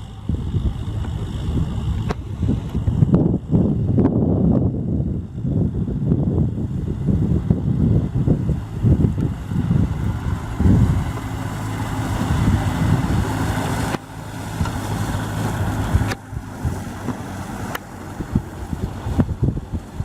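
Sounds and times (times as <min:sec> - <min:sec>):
tractor diesel engine running: 0:00.0 - 0:20.0
wind gusting on microphone: 0:00.0 - 0:20.0.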